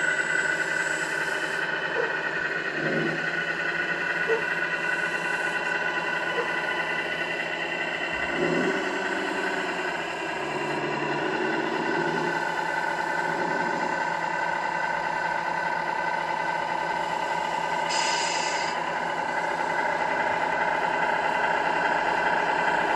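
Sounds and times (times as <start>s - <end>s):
simulated truck engine drone: 0.0s - 22.9s.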